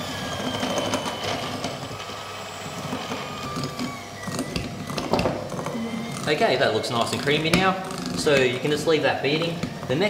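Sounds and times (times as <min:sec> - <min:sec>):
electric hand mixer whining: 0:00.0 - 0:10.0.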